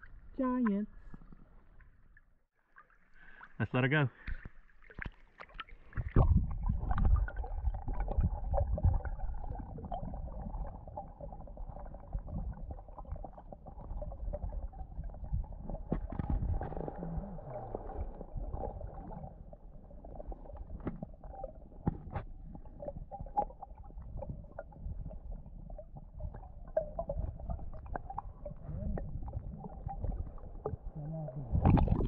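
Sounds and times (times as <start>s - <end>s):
muffled underwater rumbling: 5.8s - 32.0s.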